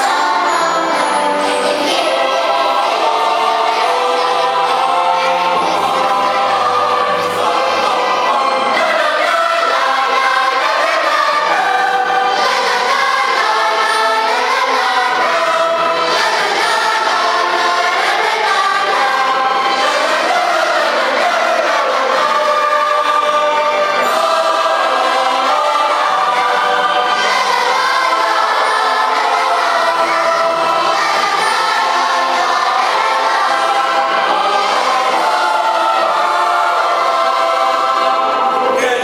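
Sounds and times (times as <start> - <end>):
choir singing in harmony: 0.0 - 39.0.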